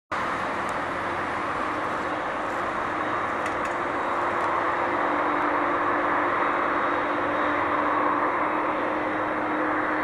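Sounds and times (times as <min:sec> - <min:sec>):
jet airliner approaching: 0:00.1 - 0:10.0.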